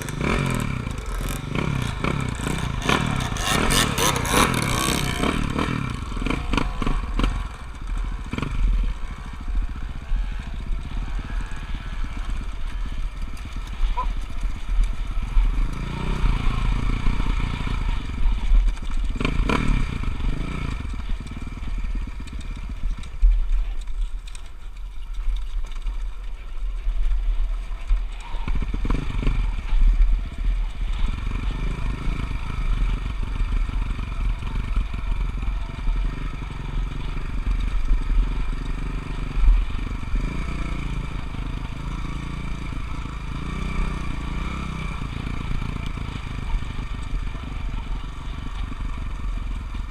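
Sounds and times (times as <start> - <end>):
motocross bike engine revving: 0.0 - 22.9, 28.4 - 49.9.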